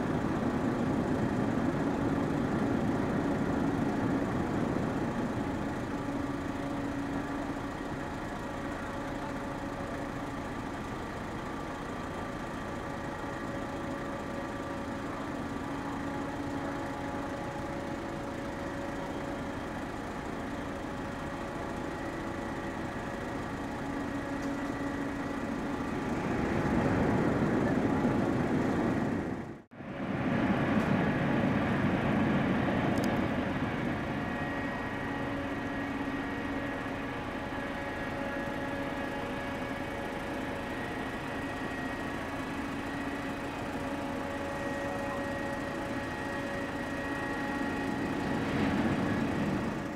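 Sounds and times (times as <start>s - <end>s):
ship engines humming: 0.0s - 49.9s.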